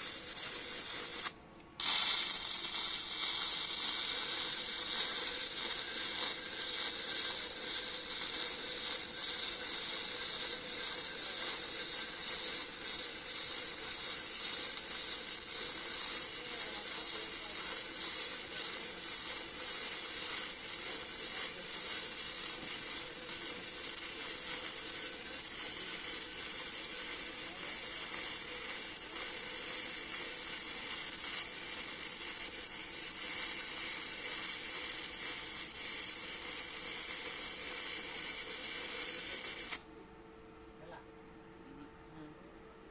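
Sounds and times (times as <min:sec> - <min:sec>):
arc welding hiss and crackle: 0:00.0 - 0:39.8.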